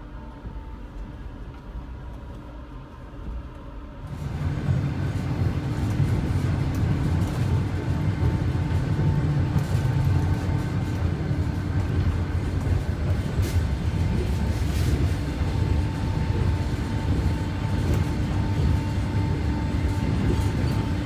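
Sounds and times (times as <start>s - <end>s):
constant hum: 0.0s - 21.0s
train carriage rumble: 0.0s - 21.0s.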